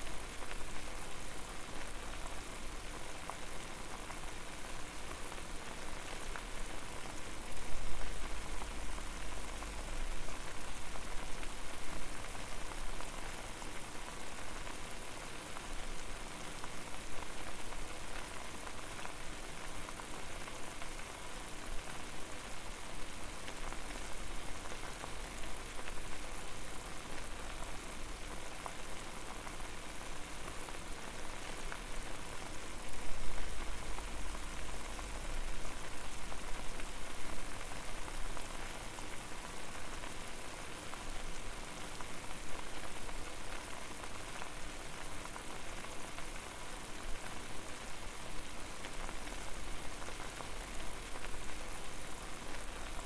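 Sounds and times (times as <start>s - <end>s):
water boiling and bubbling: 0.0s - 53.0s.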